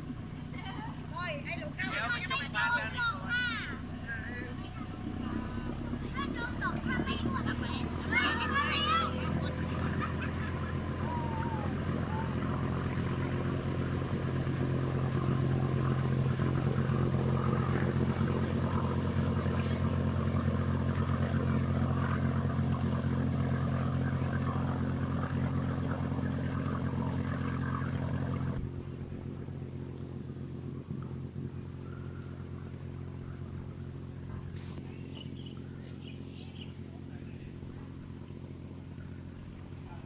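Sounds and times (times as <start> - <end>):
small boat engine running: 0.0 - 40.0
water hissing alongside boat: 0.0 - 40.0.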